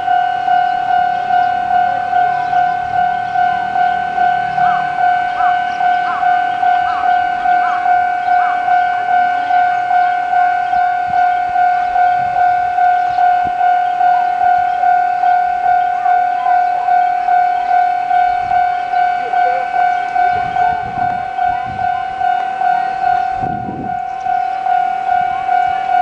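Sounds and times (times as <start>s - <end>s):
level-crossing alarm tone pulsing: 0.0s - 26.0s
train rumble: 0.0s - 26.0s.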